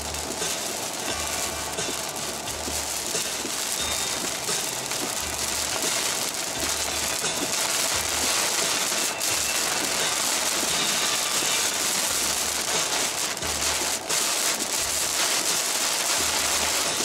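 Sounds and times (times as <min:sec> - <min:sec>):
heavy rain pelting car windshield: 0:00.0 - 0:17.0
tyre and road noise: 0:00.0 - 0:17.0.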